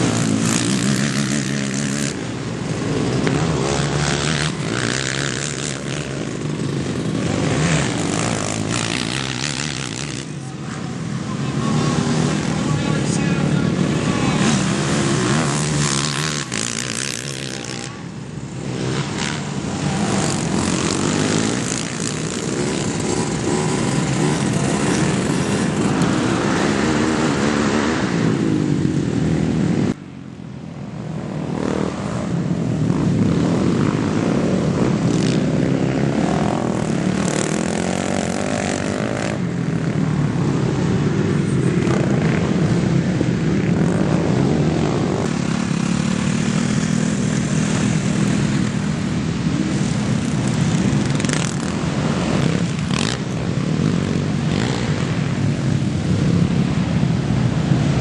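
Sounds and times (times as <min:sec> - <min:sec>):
quad engines revving: 0:00.0 - 0:29.9, 0:31.4 - 0:56.5.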